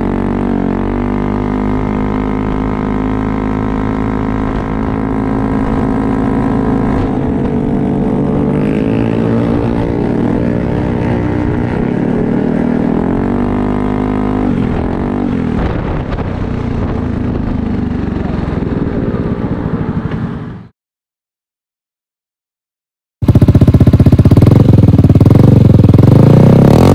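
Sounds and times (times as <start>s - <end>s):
scooter engine revving: 0.0s - 20.5s, 23.2s - 26.9s.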